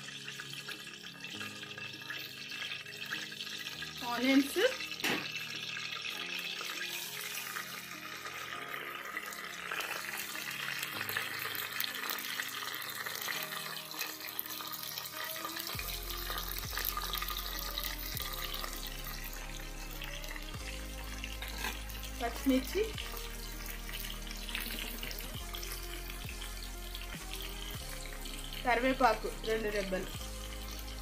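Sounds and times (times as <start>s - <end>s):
faint background music: 0.0s - 31.0s
onions sizzling in oil: 0.0s - 31.0s.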